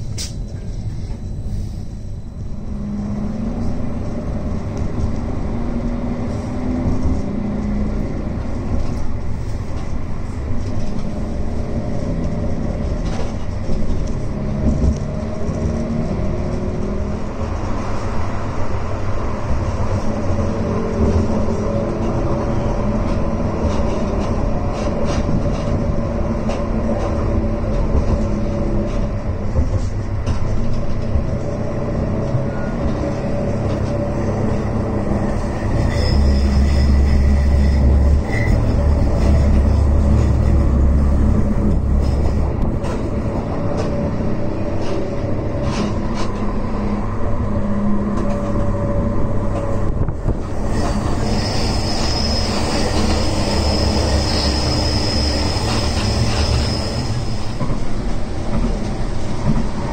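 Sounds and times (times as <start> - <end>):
tram motor hum: 0.0 - 59.9
wheels rumbling on rail: 0.0 - 59.9.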